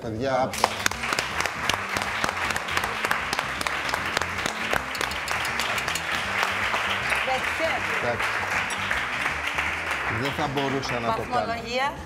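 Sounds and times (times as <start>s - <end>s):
audience applauding: 0.6s - 11.6s.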